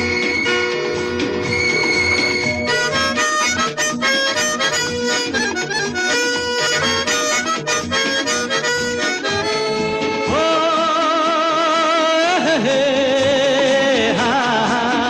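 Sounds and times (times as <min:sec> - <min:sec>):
background music with reedy melody: 0:00.0 - 0:15.0.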